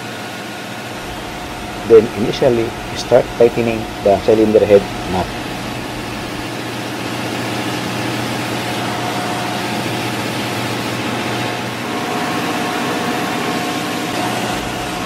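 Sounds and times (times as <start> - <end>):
engine-room machinery drone: 0.0 - 15.0.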